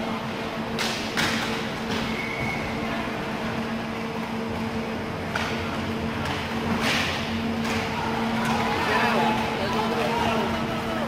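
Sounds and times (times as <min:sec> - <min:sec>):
low building hum: 0:00.0 - 0:11.0
roller hockey play on rink floor: 0:00.0 - 0:11.0.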